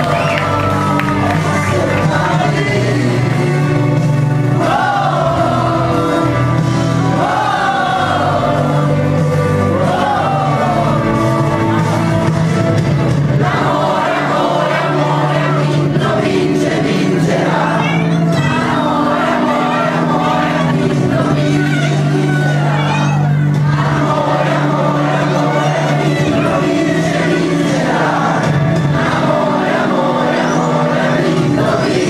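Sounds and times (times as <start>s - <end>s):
young voices singing in unison: 0.0s - 12.2s, 13.1s - 32.0s
instrumental accompaniment: 0.0s - 32.0s.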